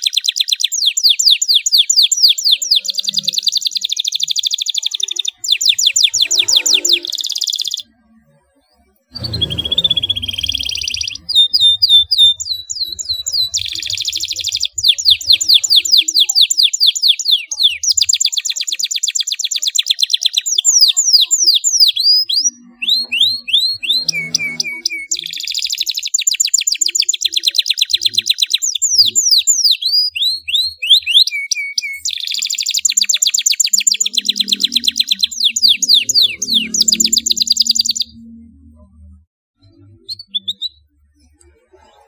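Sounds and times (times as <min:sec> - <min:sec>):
canary singing trills: 0:00.0 - 0:42.0.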